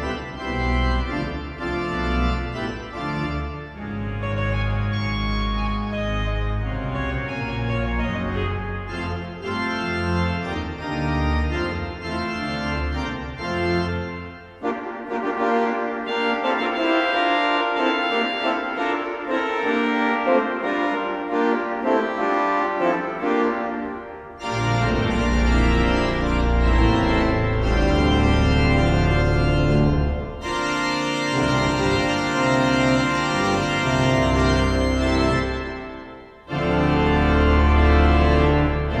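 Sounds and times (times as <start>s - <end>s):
pipe organ playing loud fanfare: 0.0s - 39.0s.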